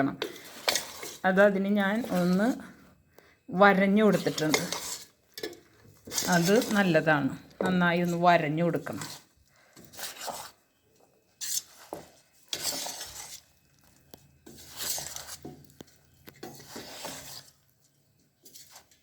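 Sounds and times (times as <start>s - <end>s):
spoon scraping in a bowl: 0.1s - 1.3s, 3.8s - 17.7s, 18.4s - 19.0s.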